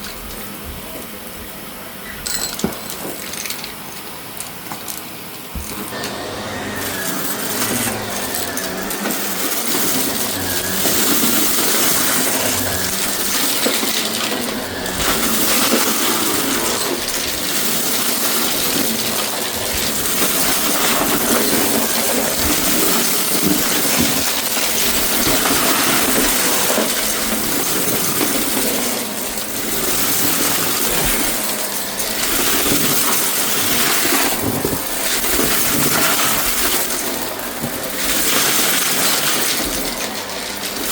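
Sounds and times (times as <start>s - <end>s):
vacuum cleaner running: 2.8s - 40.9s
grit rattling through vacuum: 4.9s - 40.9s.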